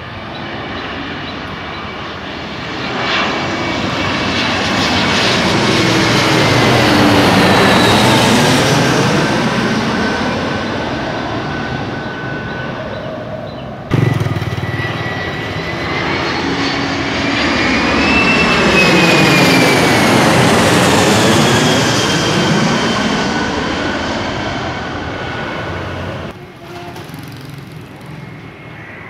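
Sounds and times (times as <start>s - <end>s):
distant jet roar: 0.0s - 29.0s
jet airliner passing overhead: 0.0s - 29.0s.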